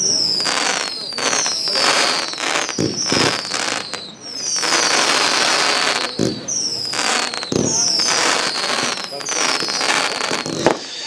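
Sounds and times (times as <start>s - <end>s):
falling firework whistles: 0.0s - 11.0s
fireworks crackling: 0.0s - 11.0s
heavy firework bangs: 0.0s - 11.0s.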